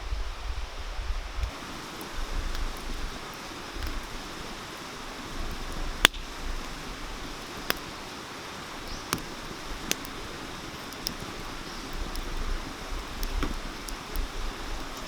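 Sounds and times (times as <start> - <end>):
wood fire crackling: 1.3 - 15.0
mountain stream rushing: 1.5 - 15.0.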